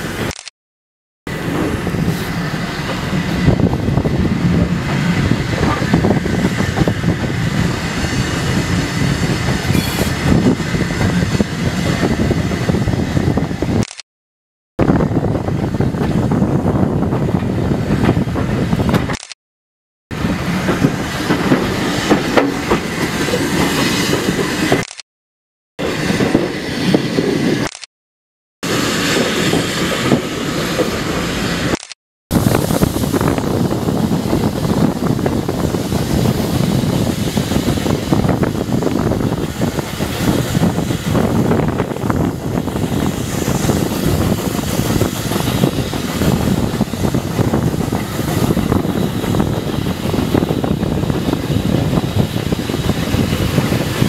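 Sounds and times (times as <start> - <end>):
train wheels rumbling on track: 1.3 - 13.9, 14.8 - 19.2, 20.1 - 25.0, 25.8 - 27.8, 28.6 - 54.0
wind rush: 1.3 - 14.0, 14.8 - 19.3, 20.1 - 25.0, 25.8 - 27.8, 28.6 - 54.0.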